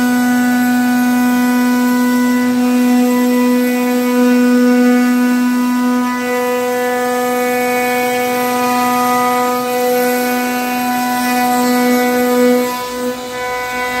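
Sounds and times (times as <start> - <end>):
bit routing wood: 0.0 - 14.0
router spindle whining: 0.0 - 14.0.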